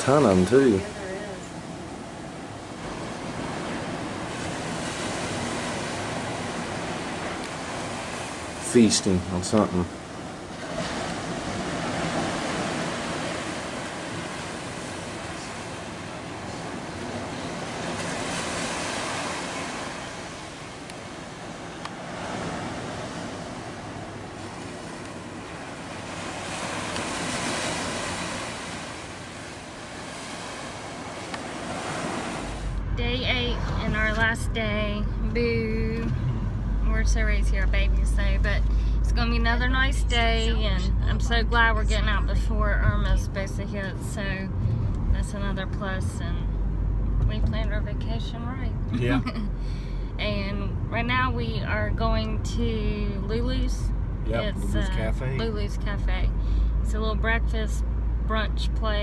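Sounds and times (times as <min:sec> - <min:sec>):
ocean surf washing: 0:00.0 - 0:59.0
wind: 0:00.0 - 0:59.0.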